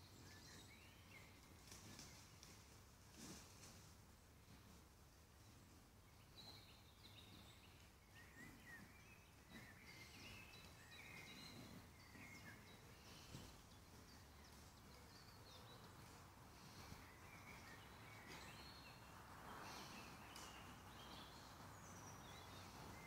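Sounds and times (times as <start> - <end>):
low background noise: 0.0 - 23.0
songbirds chirping: 0.0 - 23.0.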